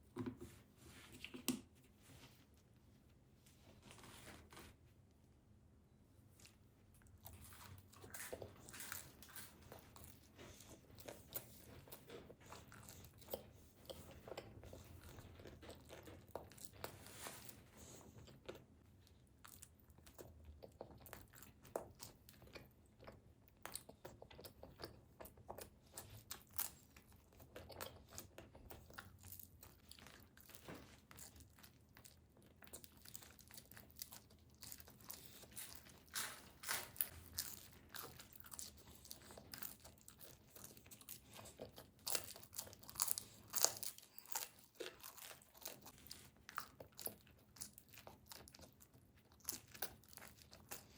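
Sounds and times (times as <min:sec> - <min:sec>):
chewing and crunching pizza: 0:06.2 - 0:50.9.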